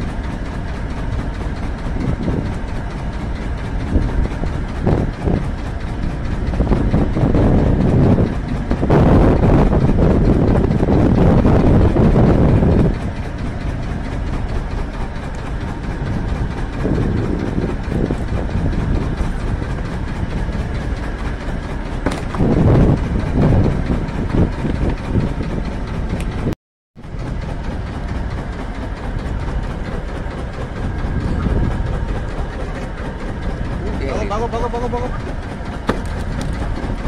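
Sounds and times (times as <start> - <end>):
boat engine rumble: 0.0 - 37.0
wind buffeting microphone: 0.0 - 37.0.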